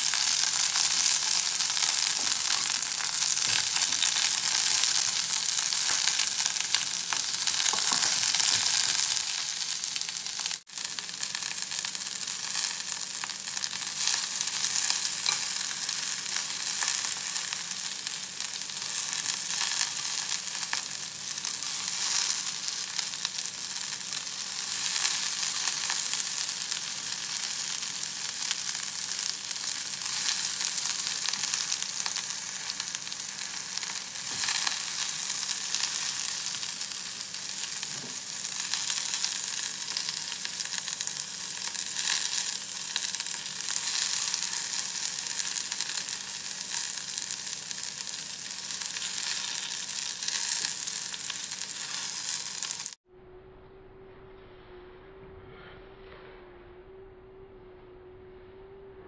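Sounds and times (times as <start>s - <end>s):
onions sizzling in oil: 0.0s - 53.0s.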